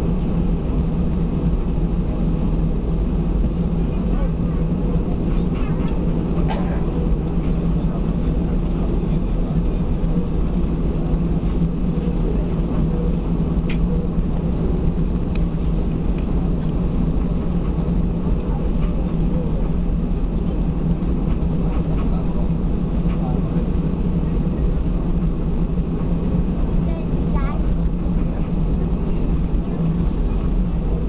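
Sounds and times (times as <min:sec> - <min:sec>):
aircraft engines droning: 0:00.0 - 0:31.0.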